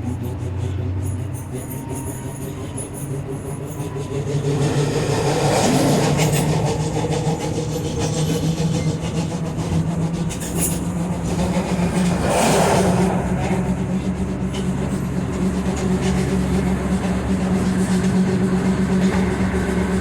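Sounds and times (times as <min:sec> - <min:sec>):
tram hum and rumble: 0:00.0 - 0:20.0.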